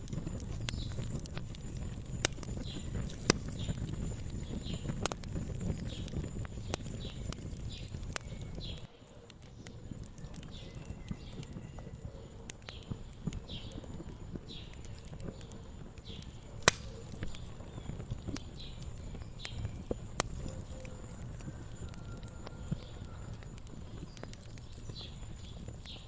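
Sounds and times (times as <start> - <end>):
small bird chirping: 0.0 - 26.0
wood fire crackling and popping: 0.0 - 26.0.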